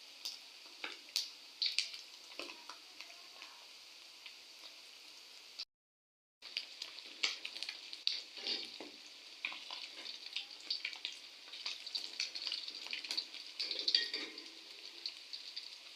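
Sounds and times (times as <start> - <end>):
fish sizzling in hot oil: 0.0 - 5.7, 6.4 - 15.9.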